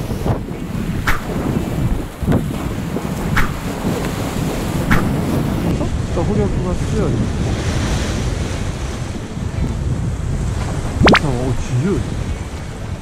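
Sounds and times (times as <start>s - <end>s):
waves washing against rocks: 0.0s - 13.0s
wind buffeting microphone: 0.0s - 13.0s.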